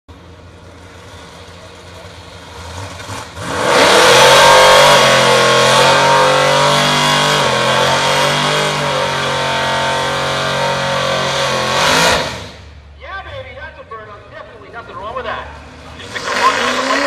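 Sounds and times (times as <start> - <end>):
car engine revving: 0.4 - 12.9, 15.5 - 17.0.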